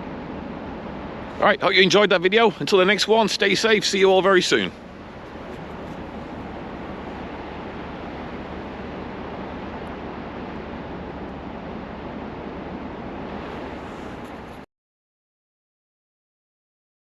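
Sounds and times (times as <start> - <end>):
water rushing: 0.0 - 14.6.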